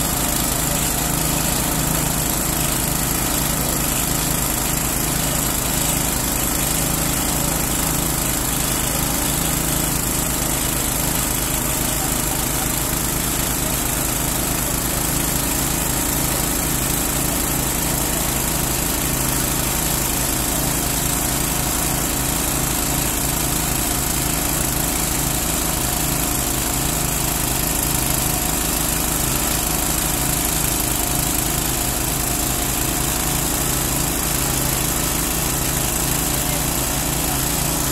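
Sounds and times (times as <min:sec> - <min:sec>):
small petrol engine running: 0:00.0 - 0:37.9.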